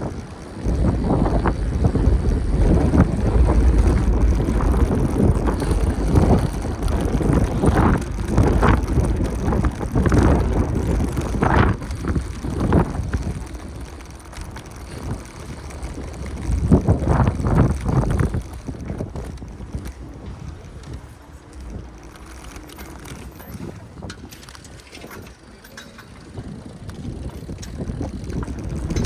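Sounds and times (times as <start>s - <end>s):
bicycle rattles: 0.0s - 29.0s
street noise: 0.0s - 29.0s
wind rumbling on microphone: 0.0s - 29.0s.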